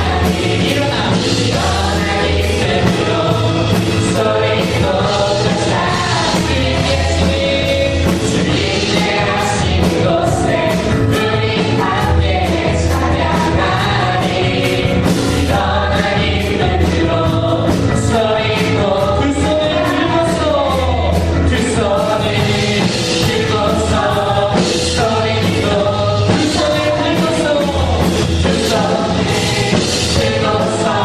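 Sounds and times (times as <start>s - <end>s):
drums and bass beat: 0.0s - 31.0s
group of voices singing: 0.0s - 31.0s.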